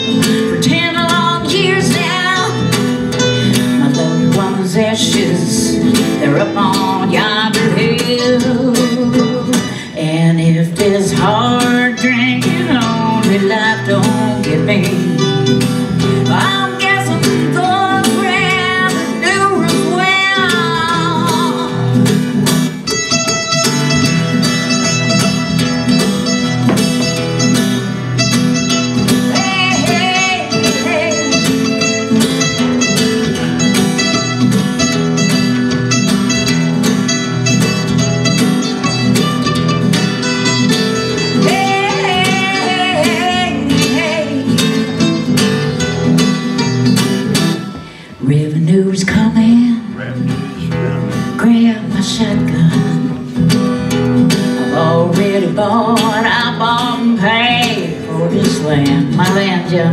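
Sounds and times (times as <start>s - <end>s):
acoustic guitar strumming chords: 0.0s - 59.9s
plucked string lead line: 0.0s - 59.9s.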